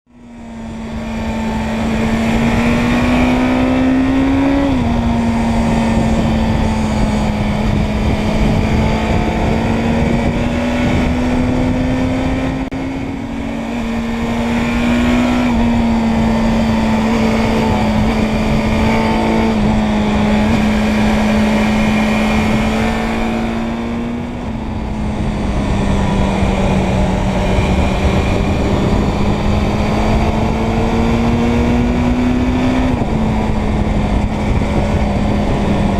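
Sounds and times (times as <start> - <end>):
motorcycle engine running: 0.1 - 35.9
wind and road noise: 0.1 - 35.9.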